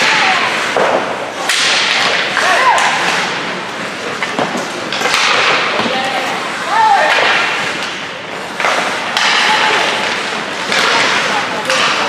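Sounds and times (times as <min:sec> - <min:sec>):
hockey sticks clacking: 0:00.0 - 0:12.0
skate blades scraping ice: 0:00.0 - 0:12.0.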